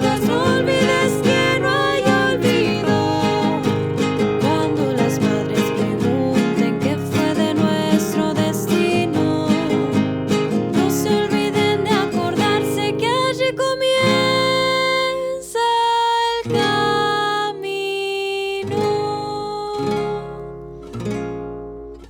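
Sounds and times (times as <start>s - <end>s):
person singing without words: 0.0s - 20.5s
acoustic guitar: 0.0s - 22.0s.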